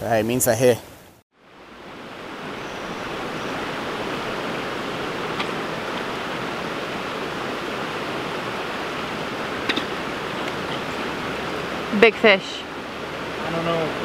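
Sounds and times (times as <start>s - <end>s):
river water rushing over rocks: 1.4s - 14.0s.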